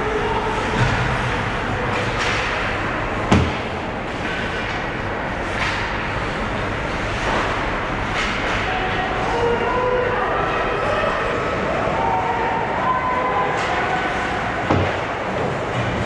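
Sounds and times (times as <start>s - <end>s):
arena crowd noise: 0.0s - 16.0s.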